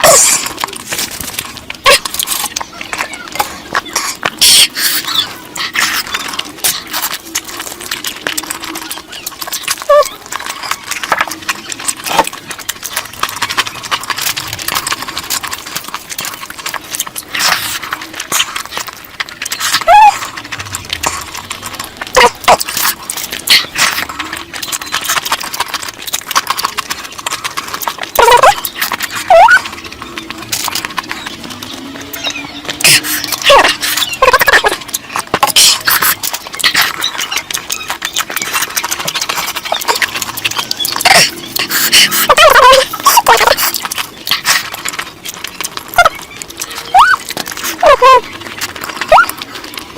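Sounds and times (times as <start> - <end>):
slurping: 0.0 - 49.9
wet chewing and lip-smacking: 0.0 - 49.9.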